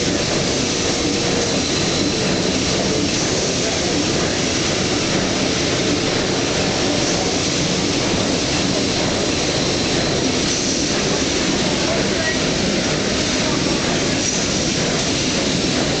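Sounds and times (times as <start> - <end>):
engine room machinery roaring: 0.0 - 16.0.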